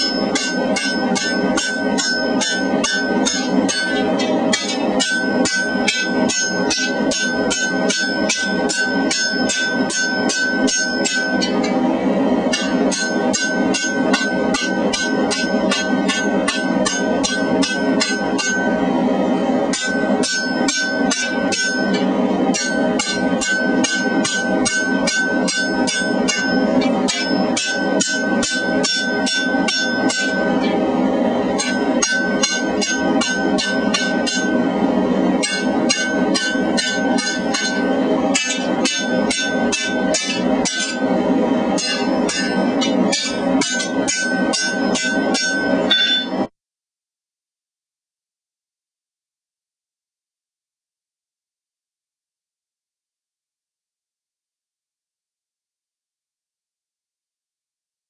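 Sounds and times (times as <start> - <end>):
air hammer striking hot metal: 0.0 - 46.5
steady hum: 0.0 - 46.5.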